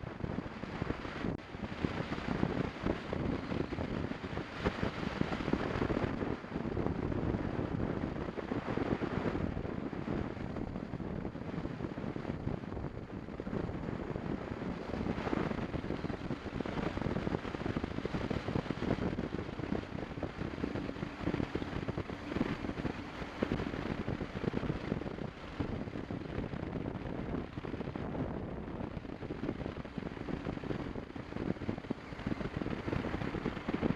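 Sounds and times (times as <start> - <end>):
wind rushing over microphone: 0.0 - 33.9.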